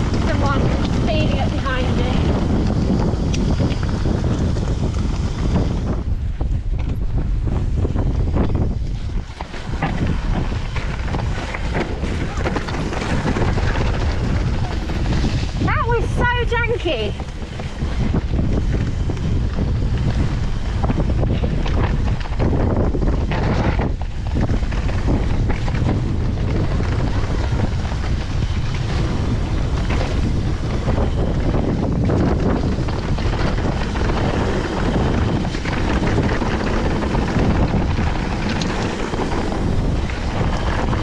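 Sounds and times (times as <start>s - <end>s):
tyres rumbling on trail: 0.0s - 41.0s
wind on microphone: 0.0s - 41.0s.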